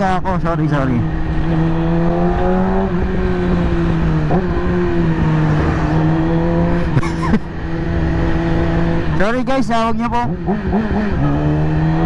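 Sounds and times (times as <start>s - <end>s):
motorcycle engine at high revs: 0.4s - 12.0s.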